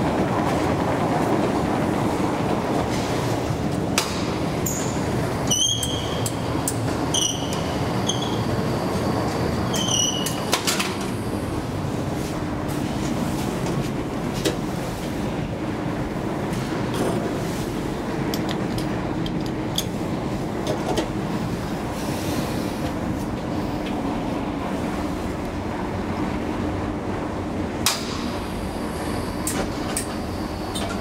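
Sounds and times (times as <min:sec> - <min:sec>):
metro station rumbling: 0:00.0 - 0:31.0.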